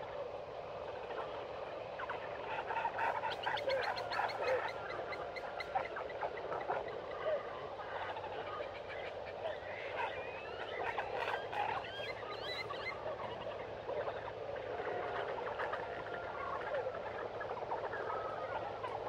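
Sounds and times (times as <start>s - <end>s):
steady background hiss: 0.0s - 19.0s
small animals chirping and peeping: 2.8s - 7.2s, 7.8s - 18.8s.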